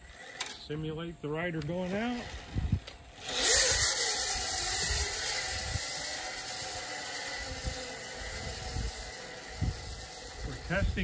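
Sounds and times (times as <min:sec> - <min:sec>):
pulley wheels whirring on cable: 0:00.0 - 0:00.6, 0:01.6 - 0:11.0.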